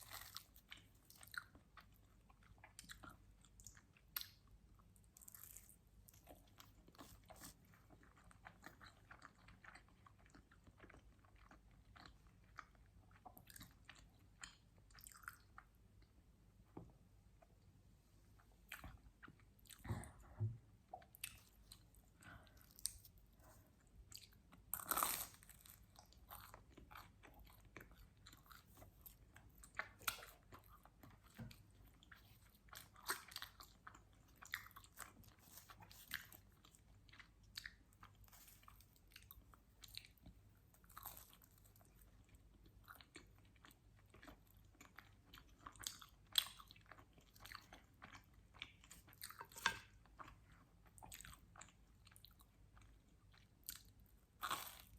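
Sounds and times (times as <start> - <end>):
chewing and biting pizza: 0.0 - 16.1, 21.0 - 54.9.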